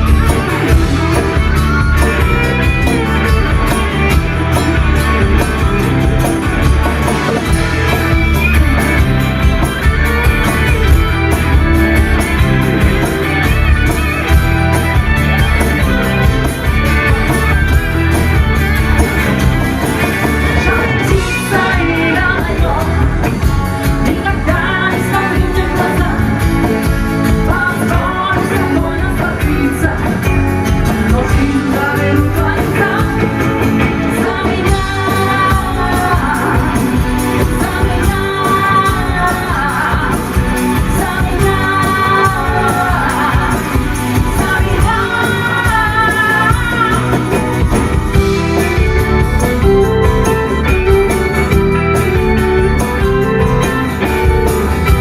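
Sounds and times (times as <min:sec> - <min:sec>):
person singing: 0:00.0 - 0:55.0
rock band playing live: 0:00.0 - 0:55.0.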